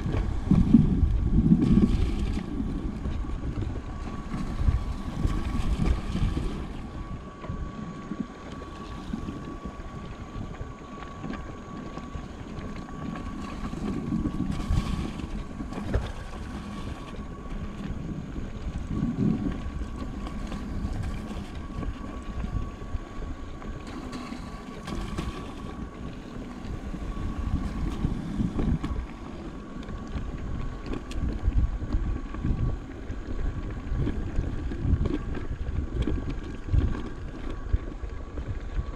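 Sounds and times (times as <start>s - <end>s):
faint high whine: 0.0s - 38.9s
wind buffeting camera: 0.0s - 38.9s.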